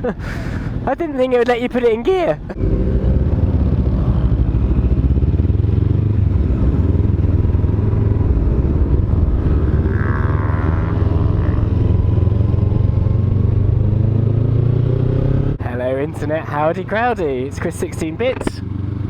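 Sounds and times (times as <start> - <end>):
motorcycle engine running: 2.6 - 15.8, 16.6 - 19.0.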